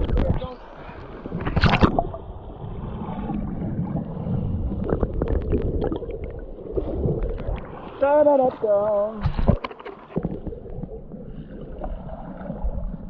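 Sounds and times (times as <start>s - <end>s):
river water churning and gurgling: 0.0s - 13.0s.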